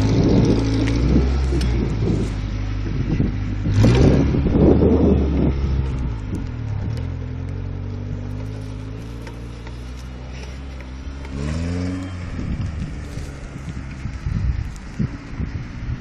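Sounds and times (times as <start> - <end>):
car engine revving off-road: 0.0 - 16.0.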